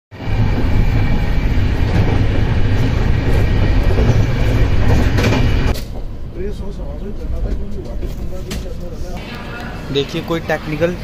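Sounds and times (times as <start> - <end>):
train passing alongside: 0.1 - 11.0
train rumbling at speed: 0.1 - 11.0.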